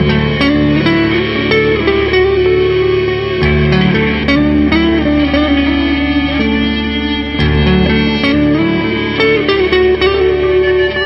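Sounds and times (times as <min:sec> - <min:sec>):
electric guitar: 0:00.0 - 0:11.0
upright bass: 0:00.0 - 0:11.0.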